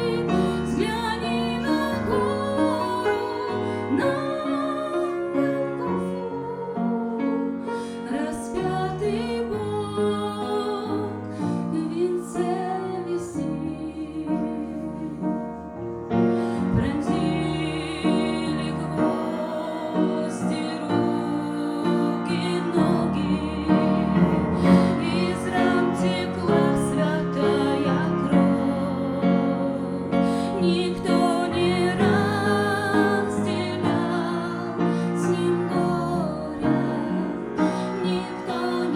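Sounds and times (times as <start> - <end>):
woman singing: 0.0 - 15.4, 16.6 - 38.9
piano accompaniment: 0.0 - 38.9.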